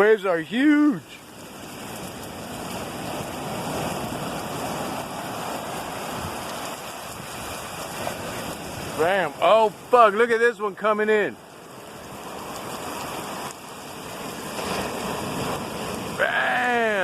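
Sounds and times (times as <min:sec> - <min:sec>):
ocean wave breaking: 0:01.1 - 0:10.0, 0:11.5 - 0:17.0.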